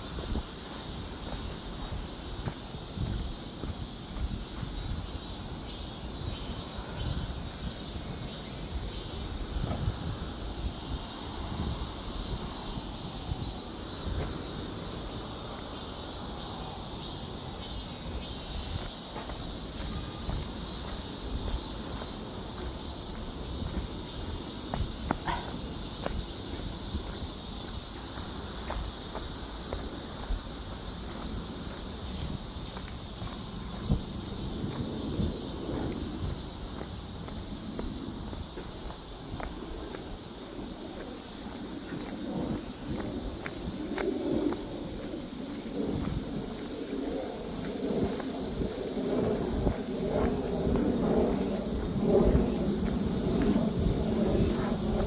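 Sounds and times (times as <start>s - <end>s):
high insect drone: 0.0s - 55.0s
wind rumble on microphone: 0.0s - 55.0s.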